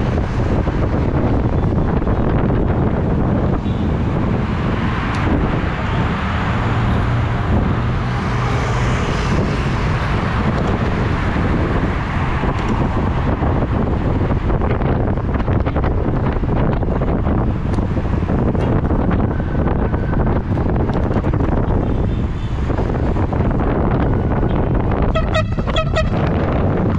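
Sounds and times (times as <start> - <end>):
road traffic: 0.0 - 26.9
wind on microphone: 0.0 - 26.9.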